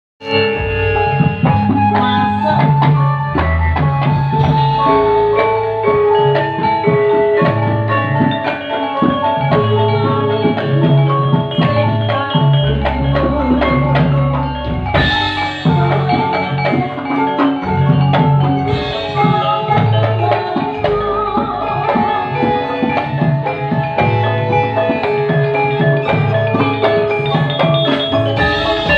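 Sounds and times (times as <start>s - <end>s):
repeating bass line: 0.2s - 17.0s, 17.6s - 28.9s
mallet percussion and drums: 0.2s - 28.9s.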